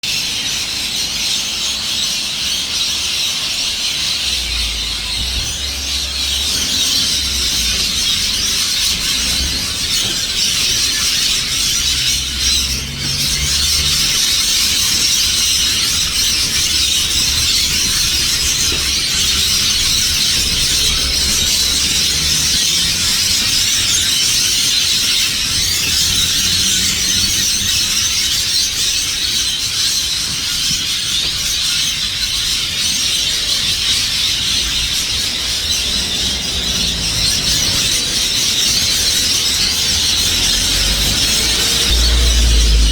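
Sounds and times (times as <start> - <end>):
flock of birds screeching: 0.0 - 42.9.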